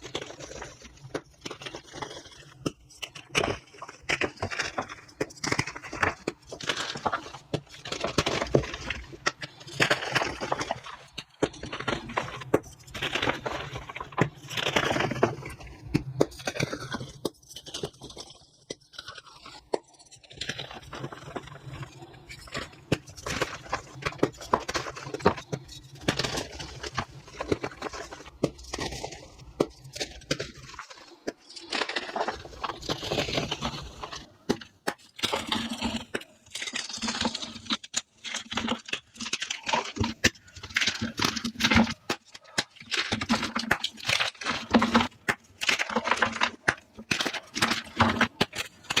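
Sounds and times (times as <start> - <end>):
chalk crunching and crackling: 0.0 - 49.0.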